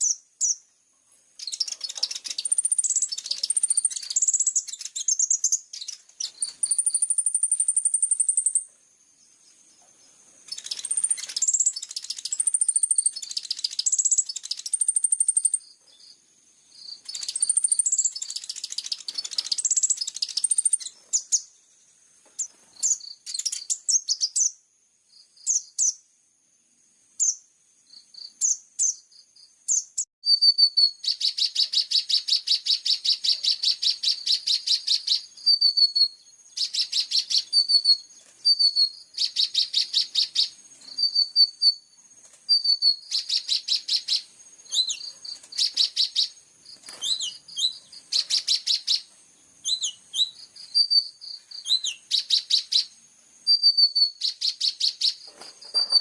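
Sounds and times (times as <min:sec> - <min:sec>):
small songbird singing: 0:00.0 - 0:26.2, 0:27.1 - 0:56.0.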